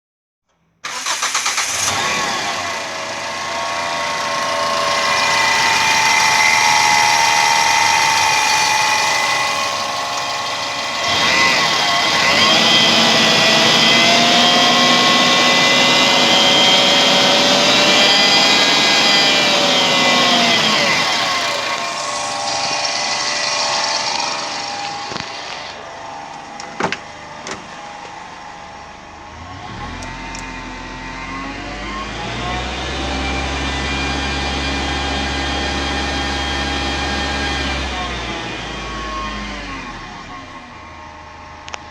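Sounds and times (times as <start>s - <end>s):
car engine revving: 0.9s - 40.5s.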